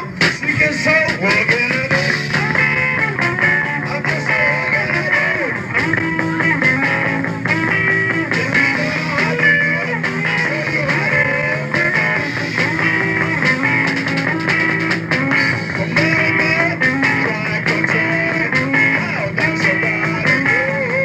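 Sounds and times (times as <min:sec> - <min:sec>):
bass line: 0:00.0 - 0:21.0
electric guitar lead notes: 0:00.0 - 0:21.0.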